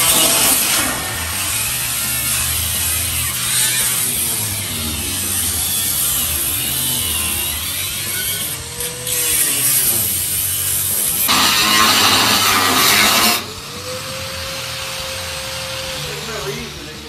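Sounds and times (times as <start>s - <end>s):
angle grinder cutting sheet steel: 0.0s - 14.3s.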